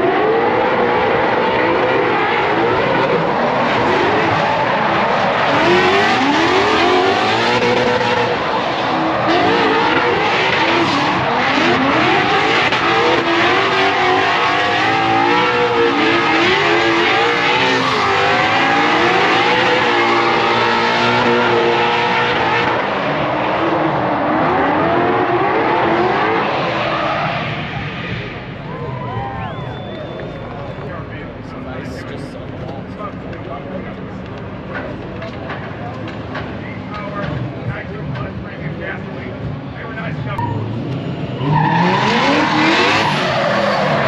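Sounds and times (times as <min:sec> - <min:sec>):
car engines revving hard: 0:00.0 - 0:28.8, 0:29.4 - 0:44.0.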